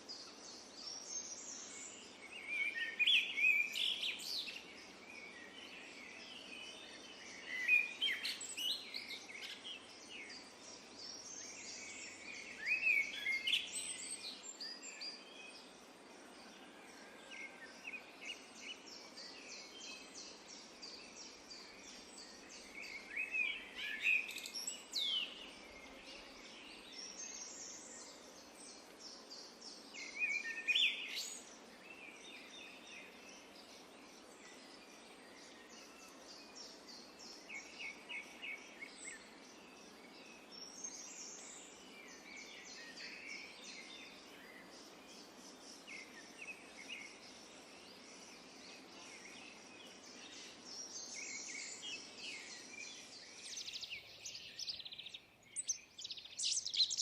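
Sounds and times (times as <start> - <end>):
background hiss: 0.0 - 57.0
wild birds chirping: 0.0 - 57.0.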